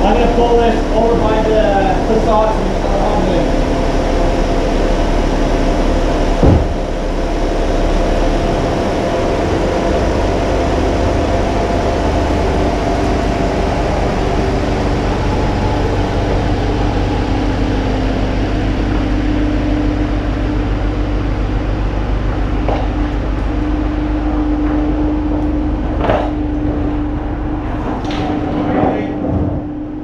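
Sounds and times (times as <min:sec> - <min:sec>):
car engine running steadily: 0:00.0 - 0:28.2.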